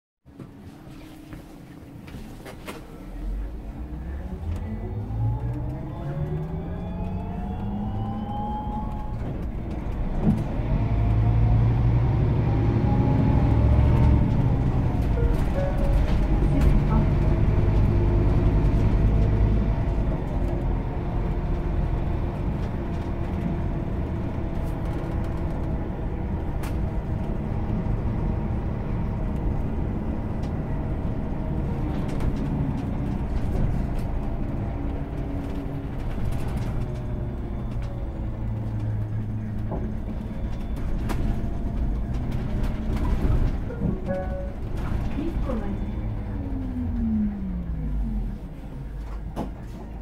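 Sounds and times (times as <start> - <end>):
bus diesel engine: 0.3 - 50.0.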